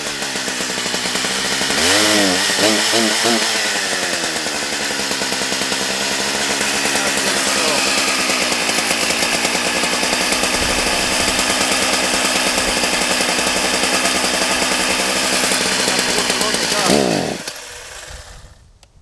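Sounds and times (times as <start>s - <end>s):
chainsaw running: 0.0s - 18.7s.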